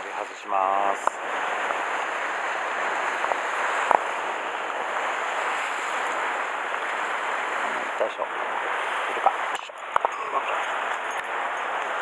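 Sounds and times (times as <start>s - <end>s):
surf breaking against rocks: 0.0s - 12.0s.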